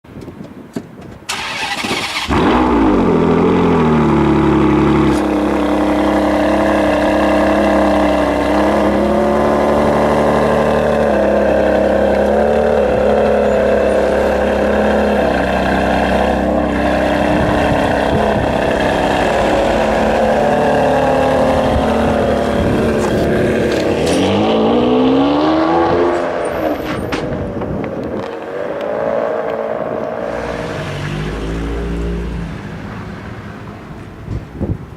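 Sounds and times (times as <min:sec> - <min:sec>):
car engine starting and idling: 0:01.3 - 0:34.4.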